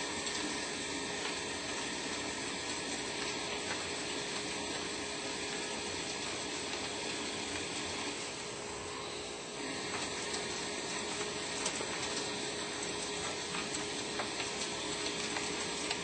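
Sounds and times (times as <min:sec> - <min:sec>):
cnc lathe whirring: 0:00.0 - 0:16.0.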